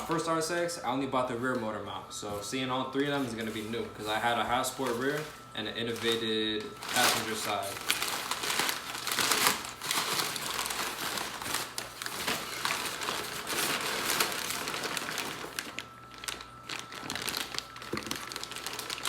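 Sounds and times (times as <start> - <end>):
packaging crinkling and rustling: 2.4 - 19.0.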